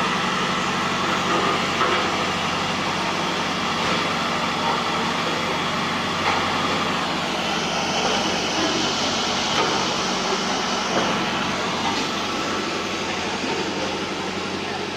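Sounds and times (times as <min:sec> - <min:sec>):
road roller engine running: 0:00.0 - 0:14.9.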